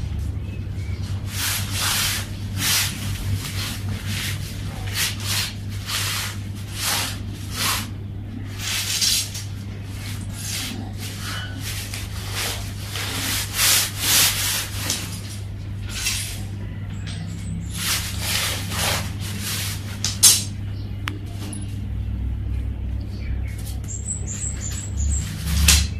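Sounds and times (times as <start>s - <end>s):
low hum: 0.0s - 25.9s.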